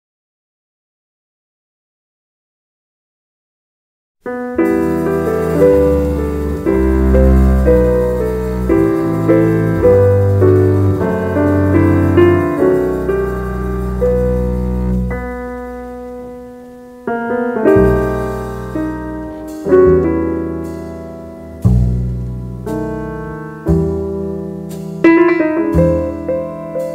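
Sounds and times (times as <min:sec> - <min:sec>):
jazz piano chords: 0:04.2 - 0:26.9
deep bass line: 0:04.5 - 0:26.9.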